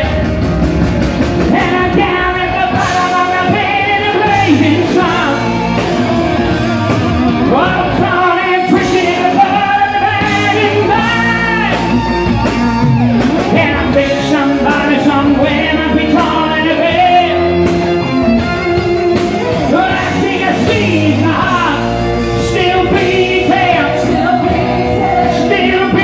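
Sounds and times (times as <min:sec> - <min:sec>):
live rock band with electric guitar: 0:00.0 - 0:26.0
man singing lead: 0:00.0 - 0:26.0.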